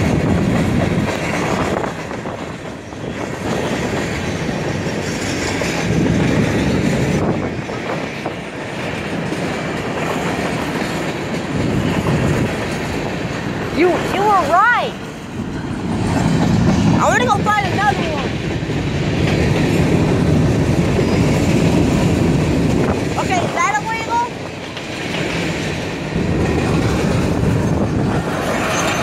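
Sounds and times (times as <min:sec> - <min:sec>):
freight train wheels rolling on rails: 0:00.0 - 0:29.0.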